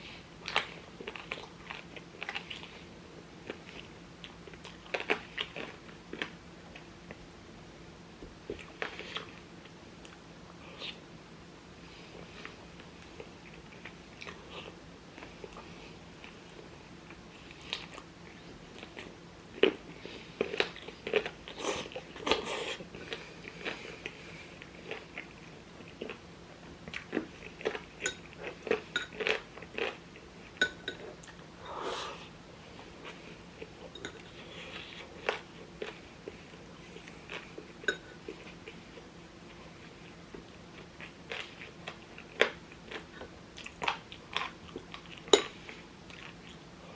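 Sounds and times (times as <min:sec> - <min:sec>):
chewing with crunches: 0:00.0 - 0:07.4, 0:08.4 - 0:11.0, 0:12.0 - 0:46.9.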